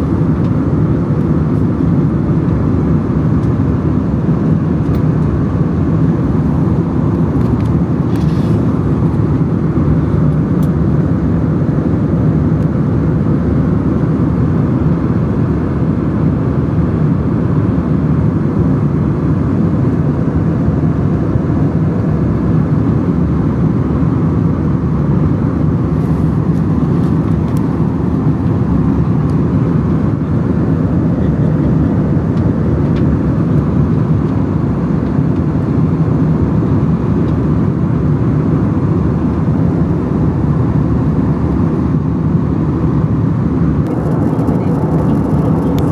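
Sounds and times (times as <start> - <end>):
airliner cabin drone: 0.0 - 45.9.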